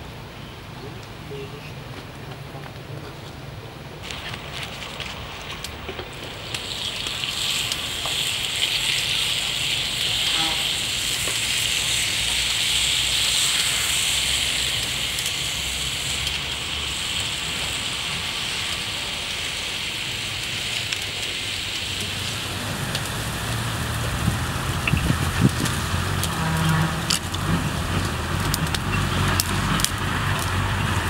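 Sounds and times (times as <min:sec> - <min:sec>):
meat sizzling on stone: 0:04.0 - 0:31.0
sharp crackles: 0:04.0 - 0:31.0.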